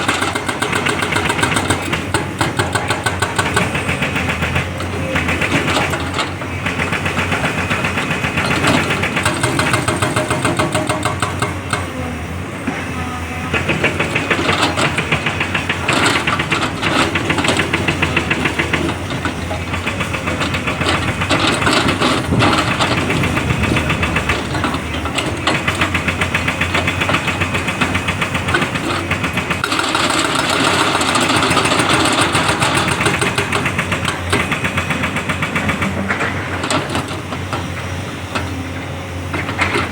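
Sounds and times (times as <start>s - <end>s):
excavator diesel engine knocking: 0.0s - 39.9s.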